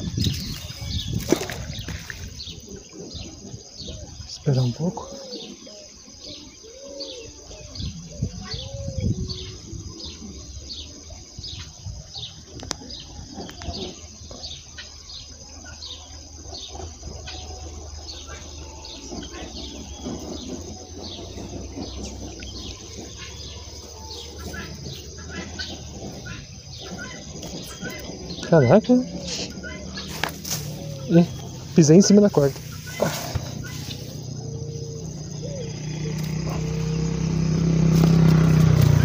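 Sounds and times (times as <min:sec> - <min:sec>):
bird chirping: 0:00.0 - 0:39.0
high-pitched insect drone: 0:00.0 - 0:39.0
lower curving bird calls: 0:00.0 - 0:39.0.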